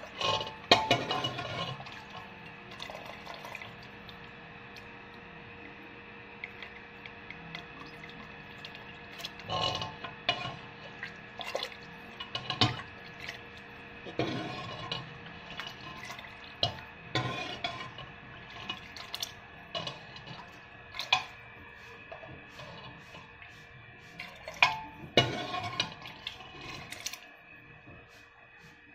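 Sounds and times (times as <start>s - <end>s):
ladle clinking and scraping pot: 0.0s - 4.3s, 7.6s - 23.5s, 24.1s - 27.2s
liquid sloshing and dripping: 0.0s - 28.1s
faint steady hum: 0.0s - 28.9s.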